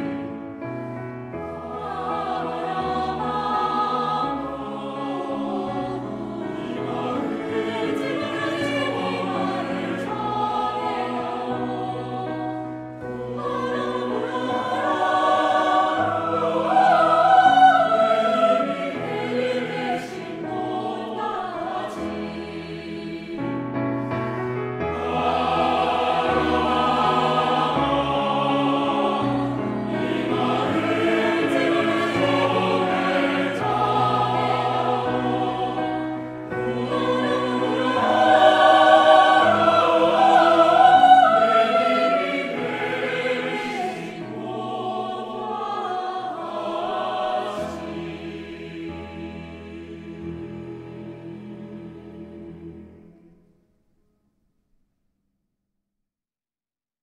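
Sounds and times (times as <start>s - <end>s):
choir singing sustained chords: 0.0s - 53.5s.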